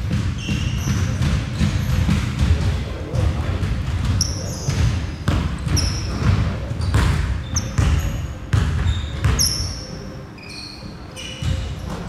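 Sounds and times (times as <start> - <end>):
basketball bouncing on gym floor: 0.0 - 9.9, 11.4 - 12.0
sneakers squeaking on court: 0.0 - 12.0.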